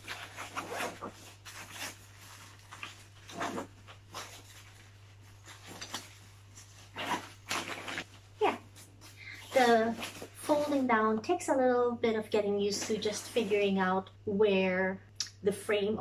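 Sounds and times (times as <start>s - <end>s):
nylon fabric rustling: 0.0s - 14.0s.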